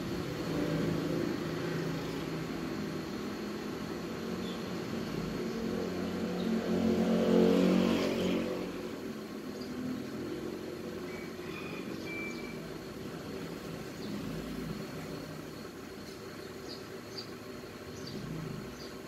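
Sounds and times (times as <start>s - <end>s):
vehicle engine passing by: 0.0s - 19.0s.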